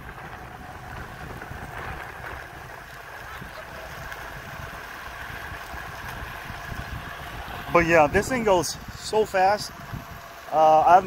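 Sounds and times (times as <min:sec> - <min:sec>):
skateboard wheels rumbling: 0:00.0 - 0:11.0.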